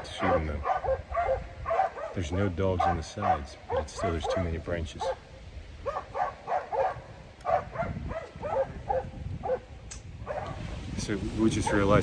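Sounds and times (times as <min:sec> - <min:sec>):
dogs barking: 0:00.0 - 0:10.8, 0:11.5 - 0:12.0.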